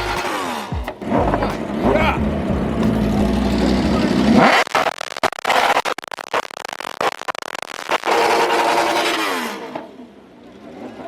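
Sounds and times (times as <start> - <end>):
car engine revving and crackling: 0.0 - 11.0.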